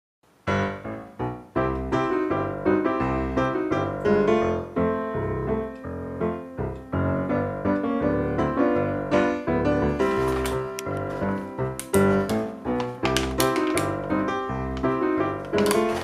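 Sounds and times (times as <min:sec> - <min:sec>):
piano background music: 0:00.3 - 0:16.0.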